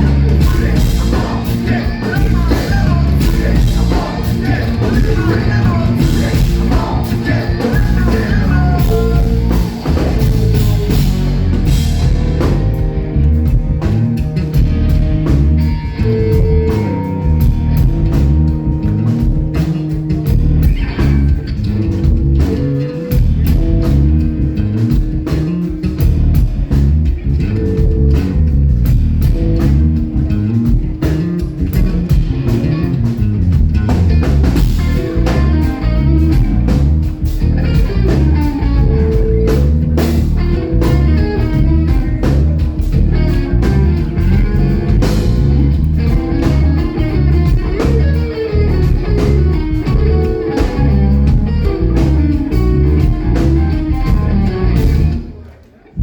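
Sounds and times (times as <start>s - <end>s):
drum kit steady beat: 0.0s - 55.4s
guitar: 0.0s - 56.0s
live rock band playing: 0.0s - 56.0s.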